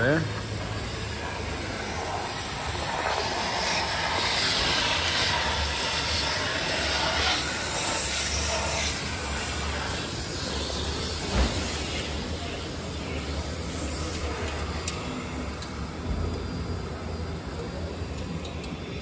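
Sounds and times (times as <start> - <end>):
vacuum cleaner running: 0.0 - 18.2.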